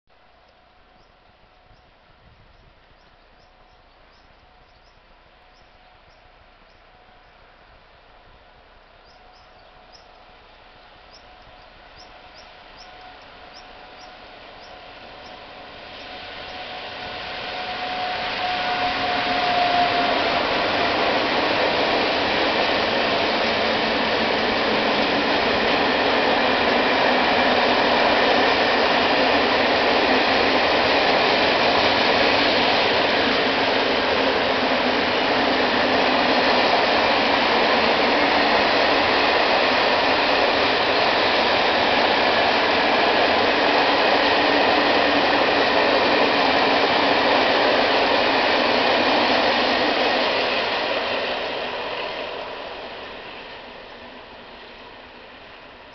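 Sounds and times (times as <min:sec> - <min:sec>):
electric locomotive whine: 0:00.1 - 0:55.9.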